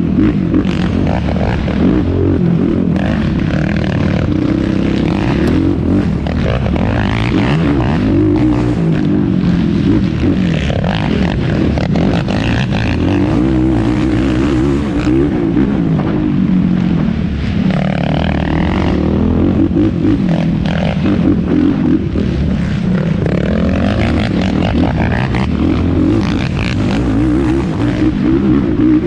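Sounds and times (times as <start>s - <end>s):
quad engine revving: 0.0s - 29.0s.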